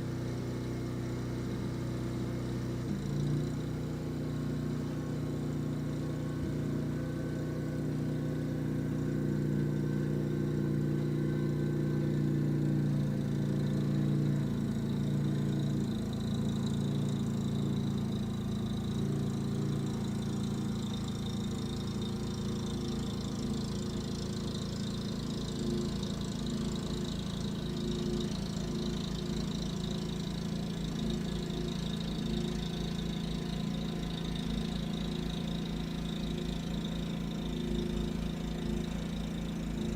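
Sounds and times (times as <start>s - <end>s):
snow blower engine running: 0.0s - 39.9s.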